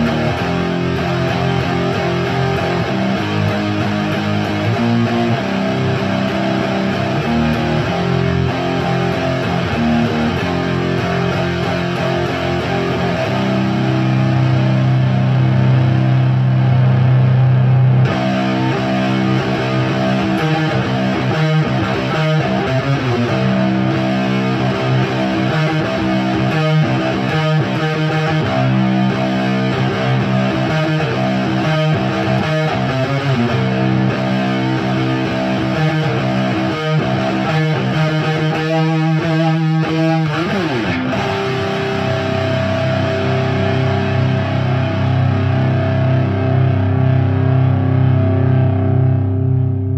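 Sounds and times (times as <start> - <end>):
overdriven electric guitar riffs: 0.0 - 49.9.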